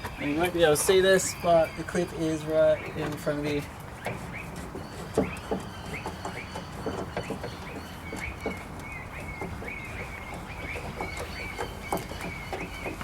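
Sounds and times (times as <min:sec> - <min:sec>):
birds chirping: 0:00.0 - 0:13.0
light clicks and knocks: 0:02.5 - 0:13.0.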